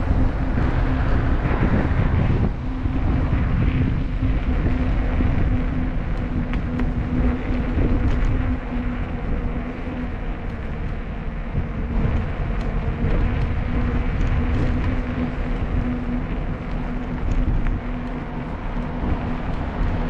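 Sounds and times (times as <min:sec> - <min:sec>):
low hum: 0:00.0 - 0:20.0
tyres on road: 0:00.0 - 0:20.0
wind on microphone: 0:00.0 - 0:20.0.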